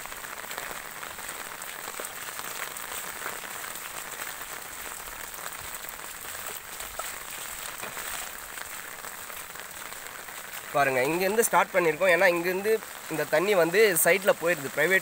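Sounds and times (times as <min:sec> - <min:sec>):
rainwater running along street: 0:00.0 - 0:15.0
water ticking: 0:00.0 - 0:15.0.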